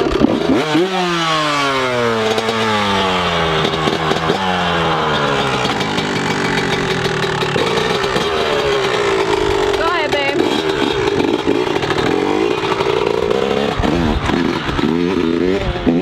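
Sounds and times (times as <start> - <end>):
dirt bike engine droning: 0.0 - 16.0.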